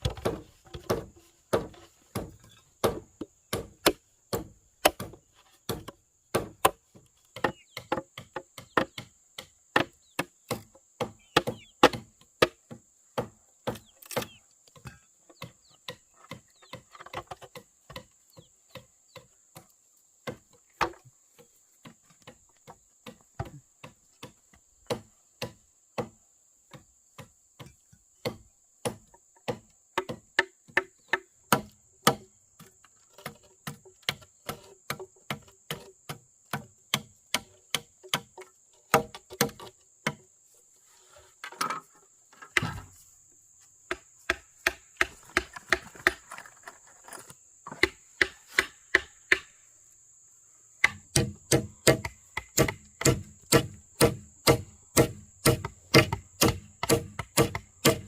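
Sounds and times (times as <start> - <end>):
chopping strikes on wood: 0.0 - 21.1, 21.8 - 32.3, 33.2 - 40.2, 42.5 - 42.9, 43.9 - 46.2, 47.7 - 49.6, 50.8 - 58.0.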